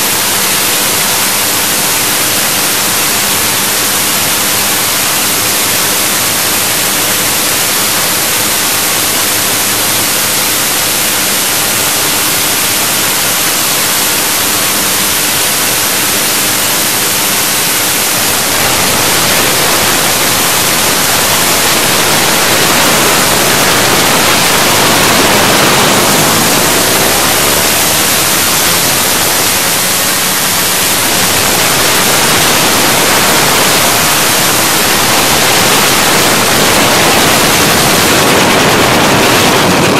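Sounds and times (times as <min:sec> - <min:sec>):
faint motorbike engine: 0:00.0 - 0:39.9
wind buffeting microphone: 0:00.0 - 0:39.9.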